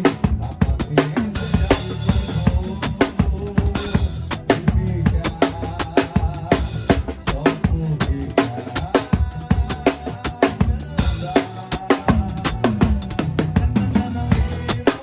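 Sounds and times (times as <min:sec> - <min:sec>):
backing track with bass and keyboard: 0:00.0 - 0:15.0
drum kit playing: 0:00.0 - 0:15.0.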